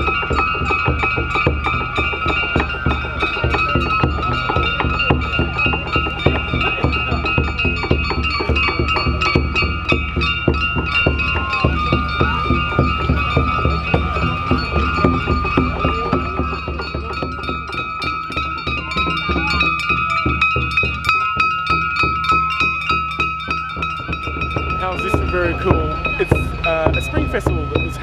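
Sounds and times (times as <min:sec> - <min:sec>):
small brass gongs ringing: 0:00.0 - 0:28.0
steady drumbeat: 0:00.0 - 0:28.0.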